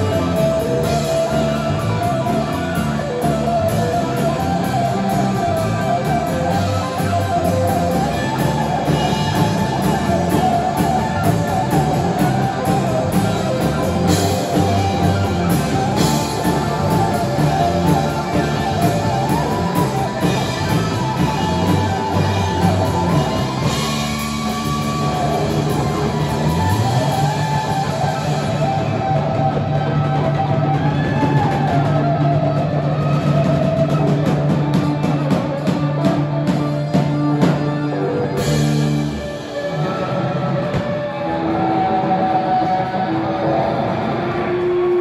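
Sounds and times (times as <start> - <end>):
drum kit: 0.0 - 45.0
electric bass: 0.0 - 45.0
electric guitar: 0.0 - 45.0
keyboard: 0.0 - 45.0.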